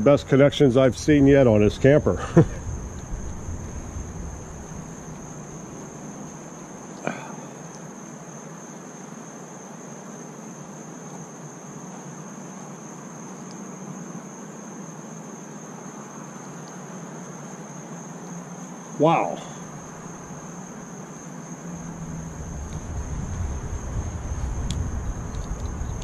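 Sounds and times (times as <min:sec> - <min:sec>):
insects shrilling: 0:00.0 - 0:26.0.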